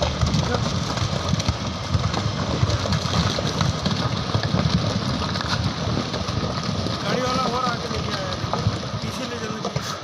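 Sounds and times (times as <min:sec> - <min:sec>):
rocks tumbling rumble: 0:00.0 - 0:10.0.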